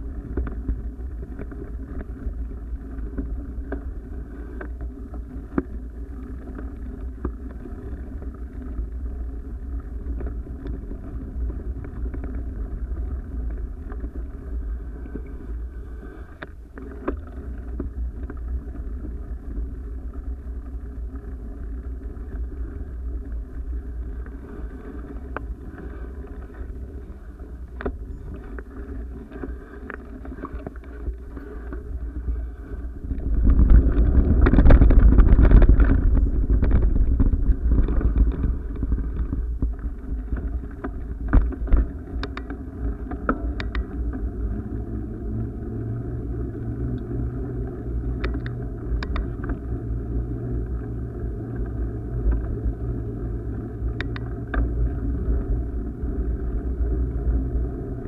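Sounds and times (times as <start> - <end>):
rumbling motion noise: 0.0 - 58.0
wind on microphone: 0.0 - 58.0.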